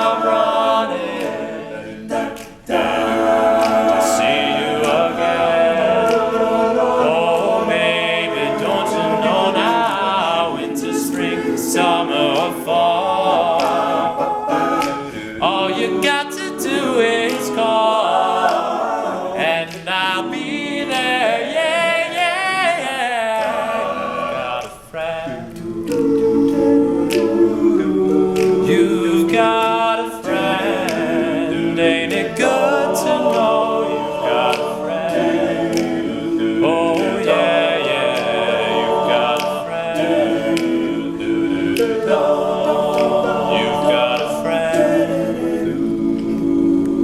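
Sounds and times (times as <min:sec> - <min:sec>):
crisp clicks keeping a beat: 0:00.0 - 0:22.7, 0:23.3 - 0:47.0
male a cappella group singing: 0:00.0 - 0:47.0.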